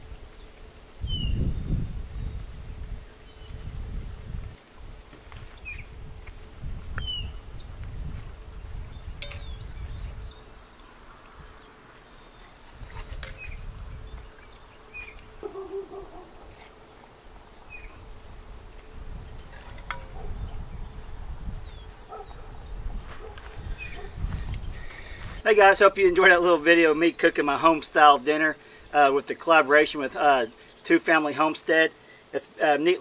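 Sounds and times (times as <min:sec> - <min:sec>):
wind rumbling on microphone: 0:00.0 - 0:26.4
insects buzzing: 0:00.0 - 0:33.0.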